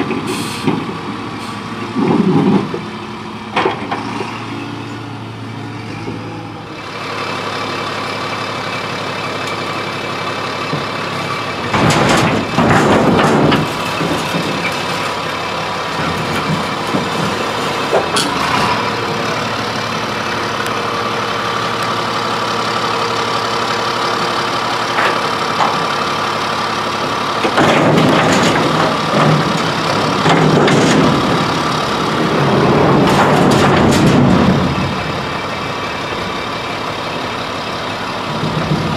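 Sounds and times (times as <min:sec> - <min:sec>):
garbage truck engine revving: 0:00.0 - 0:38.9.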